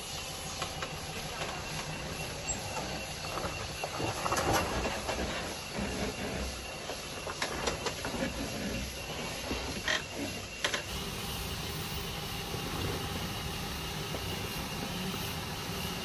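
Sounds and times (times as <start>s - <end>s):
off-road vehicle engine at low revs: 1.4s - 16.0s.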